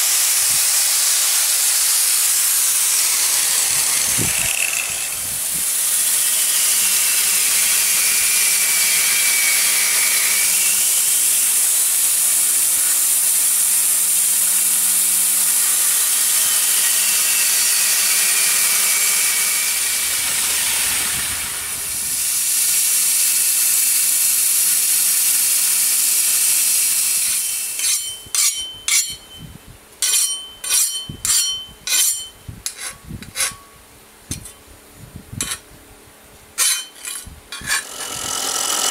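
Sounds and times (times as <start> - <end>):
belt grinder grinding steel: 0.0 - 33.6, 36.6 - 38.9.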